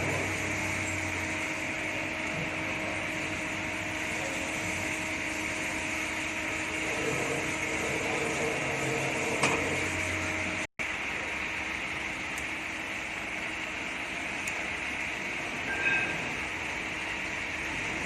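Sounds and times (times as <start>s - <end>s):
lathe humming with whine: 0.0s - 18.0s.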